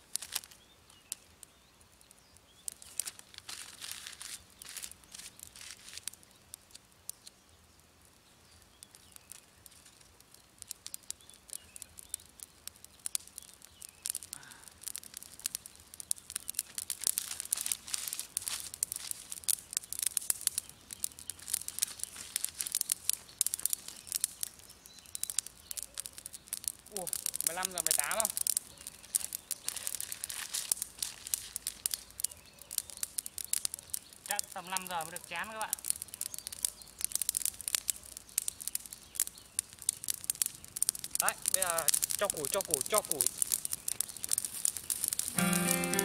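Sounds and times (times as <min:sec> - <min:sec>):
twigs burning and crackling: 0:00.0 - 0:46.0.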